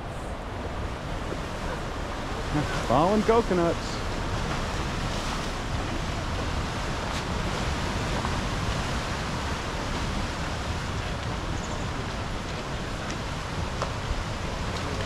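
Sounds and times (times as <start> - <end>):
ocean surf breaking on rocks: 0.0 - 15.0.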